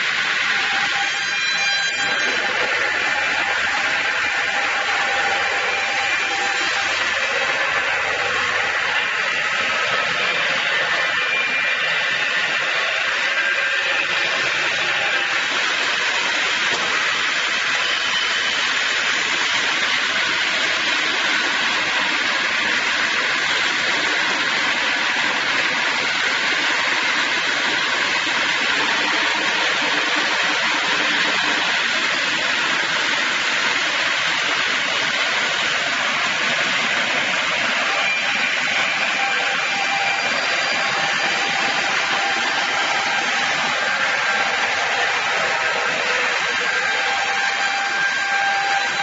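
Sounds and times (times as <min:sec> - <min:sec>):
sawmill running with steady hiss: 0:00.0 - 0:49.0.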